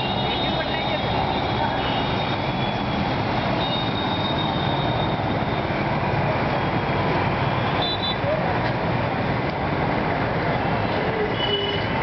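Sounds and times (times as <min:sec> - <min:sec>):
street traffic engines: 0:00.0 - 0:12.0.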